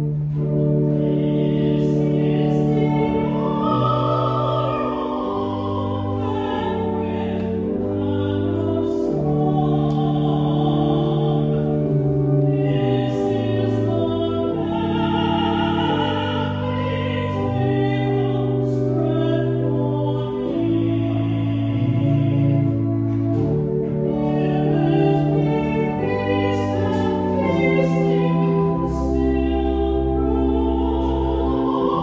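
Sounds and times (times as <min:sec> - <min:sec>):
long held accompanying chords: 0:00.0 - 0:32.0
person singing a hymn: 0:00.0 - 0:32.0.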